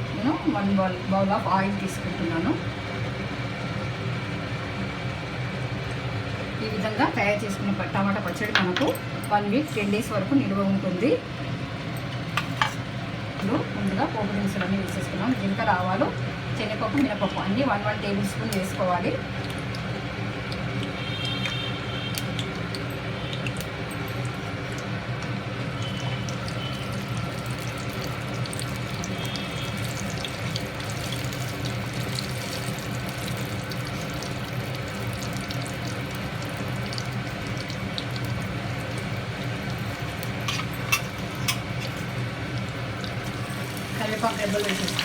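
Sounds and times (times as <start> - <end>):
spices sizzling in hot oil: 0.0 - 45.0.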